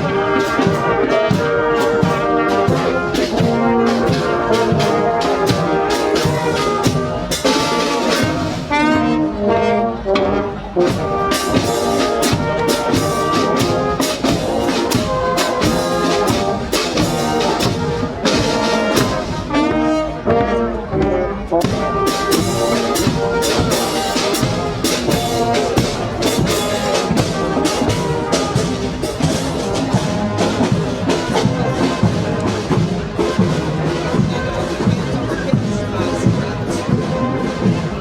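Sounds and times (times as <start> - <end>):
brass marching band playing: 0.0 - 38.0
drums beating march rhythm: 0.0 - 38.0
trumpets and trombones: 0.0 - 38.0.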